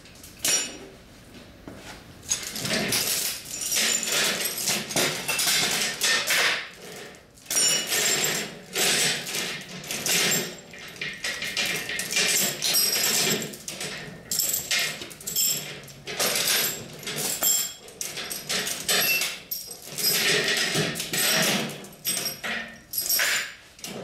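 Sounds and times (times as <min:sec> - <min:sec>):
metal parts clanking and jangling: 0:00.2 - 0:00.8, 0:02.3 - 0:24.0.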